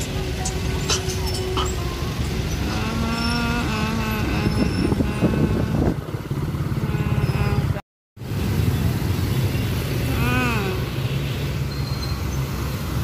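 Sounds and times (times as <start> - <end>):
motorcycles and vehicles passing: 0.0 - 13.0.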